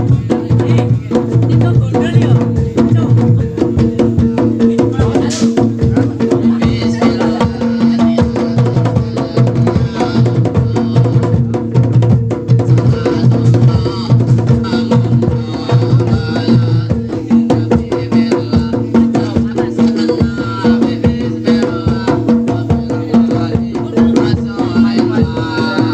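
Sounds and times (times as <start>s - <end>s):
fast dense drumming: 0.0s - 25.9s.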